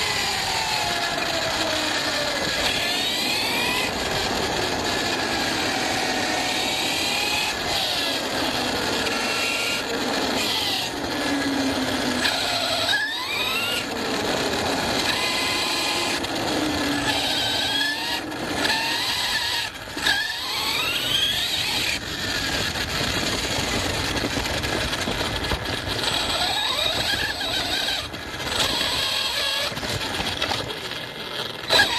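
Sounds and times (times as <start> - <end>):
rc car motor whining: 0.0 - 31.9.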